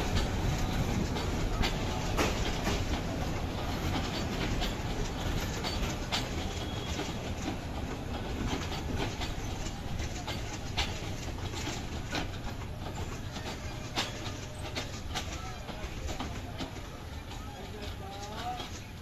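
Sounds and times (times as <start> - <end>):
train wheels rumbling: 0.0 - 19.0
wheels clacking over rail joints: 0.0 - 19.0.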